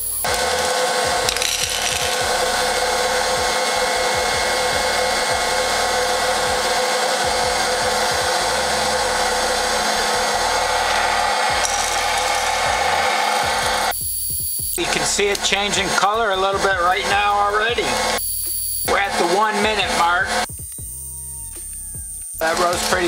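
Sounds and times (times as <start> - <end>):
popcorn popper fan whooshing: 0.0 - 14.0, 14.8 - 18.2, 18.9 - 21.0, 21.6 - 23.0.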